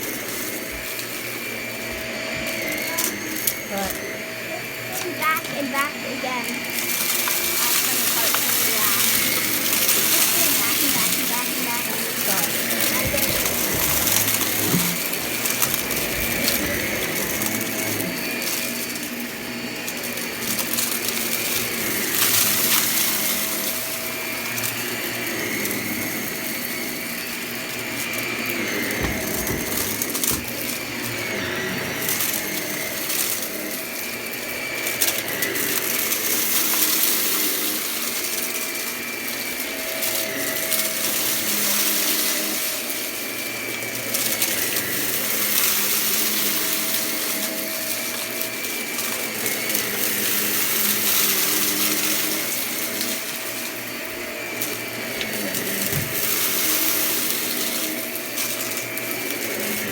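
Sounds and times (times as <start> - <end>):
vacuum cleaner running: 0.0 - 59.9
debris crackling in vacuum: 2.6 - 59.9.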